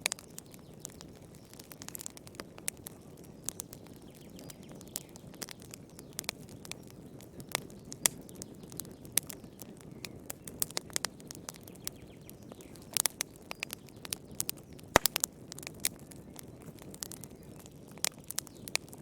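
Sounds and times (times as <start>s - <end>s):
low hiss of burning: 0.0s - 19.0s
wood fire crackling: 0.0s - 19.0s.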